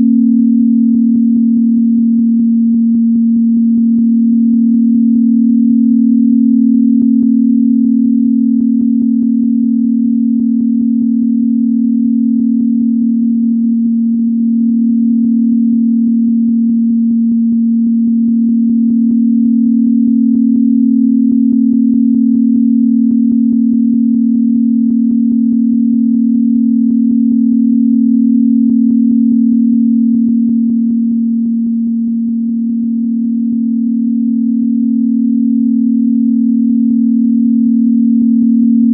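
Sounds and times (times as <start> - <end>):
low sine tone: 0.0 - 38.9.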